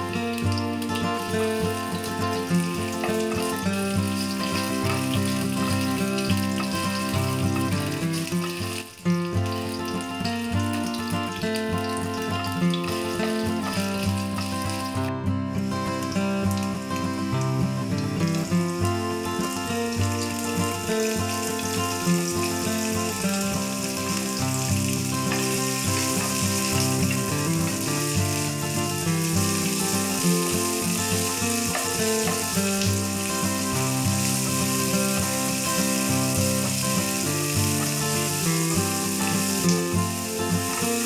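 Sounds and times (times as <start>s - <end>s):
background music: 0.0s - 41.0s
onions sizzling in hot oil: 0.0s - 41.0s.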